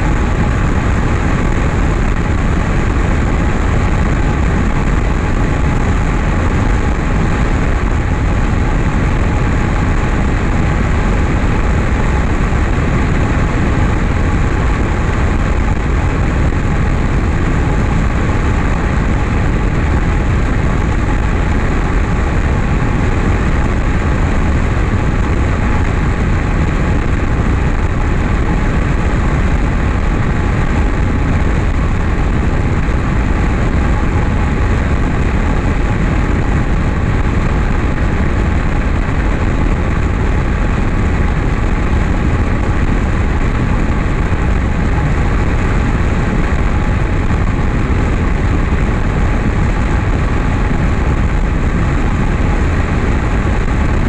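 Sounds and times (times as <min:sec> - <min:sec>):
aircraft engine and propeller: 0:00.0 - 0:54.0
wind rush on microphone: 0:00.0 - 0:54.0.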